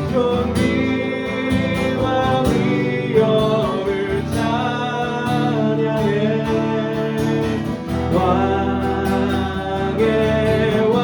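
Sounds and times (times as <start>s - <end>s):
group singing a worship song: 0.0s - 11.0s
guitar accompaniment: 0.0s - 11.0s.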